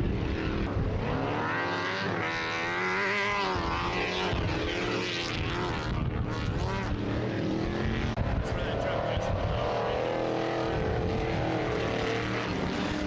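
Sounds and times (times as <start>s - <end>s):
race engine revving: 0.2s - 13.0s.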